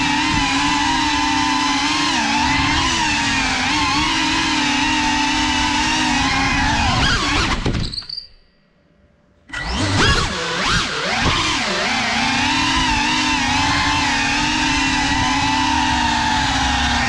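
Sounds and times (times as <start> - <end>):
quadcopter motors whining: 0.0 - 8.2, 9.5 - 17.0.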